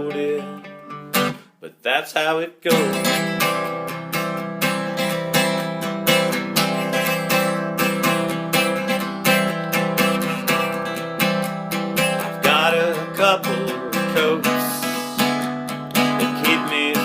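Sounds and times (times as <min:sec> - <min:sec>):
acoustic guitar strumming: 0:00.0 - 0:01.6, 0:02.2 - 0:17.0.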